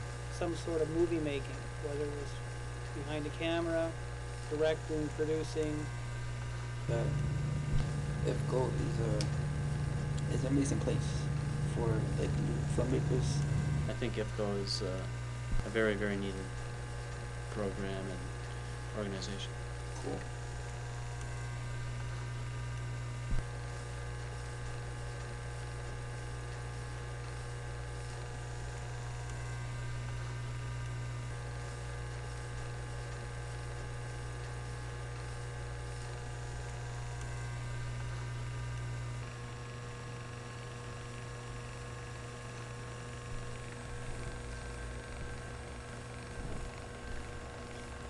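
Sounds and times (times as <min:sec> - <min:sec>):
electrical hum: 0:00.0 - 0:48.0
faint steady tones: 0:00.0 - 0:48.0.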